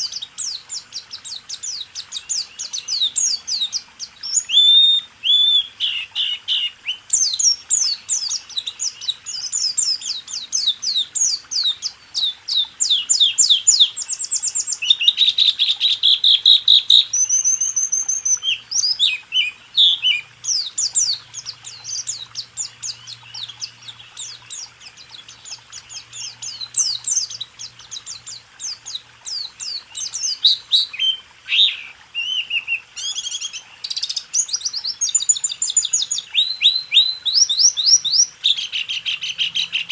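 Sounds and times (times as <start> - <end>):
bird chattering and trilling: 0.0 - 39.9.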